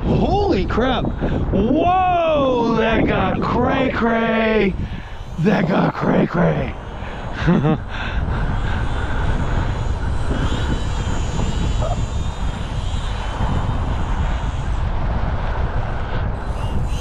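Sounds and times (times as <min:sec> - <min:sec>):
strong wind buffeting microphone: 0:00.0 - 0:17.0
model plane motor whining: 0:02.4 - 0:17.0.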